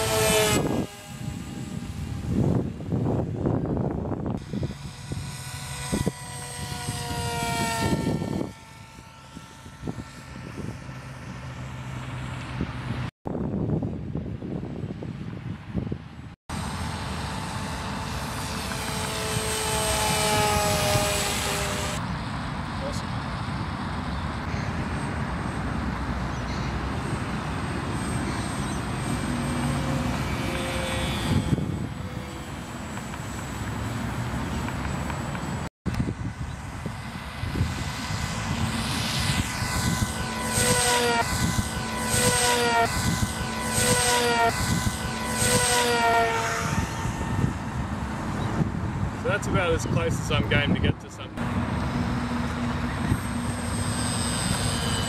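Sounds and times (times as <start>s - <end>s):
model plane propeller whine: 0.0s - 55.0s.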